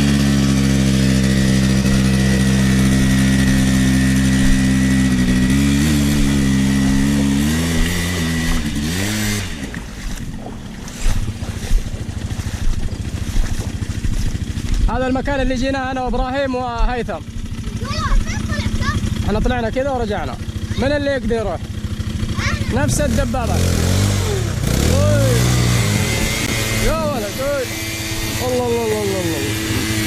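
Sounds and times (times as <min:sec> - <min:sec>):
quad bike engine running hard: 0:00.0 - 0:30.0.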